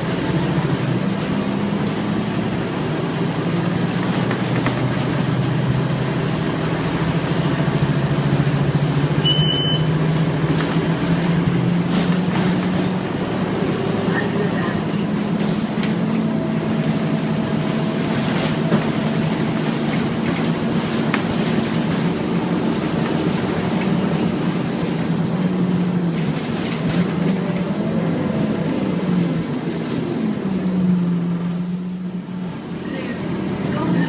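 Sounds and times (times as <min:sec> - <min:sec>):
bus engine drone: 0:00.0 - 0:34.0.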